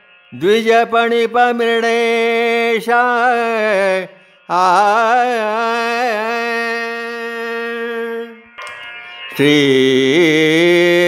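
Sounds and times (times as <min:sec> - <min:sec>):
person chanting: 0:00.3 - 0:11.0.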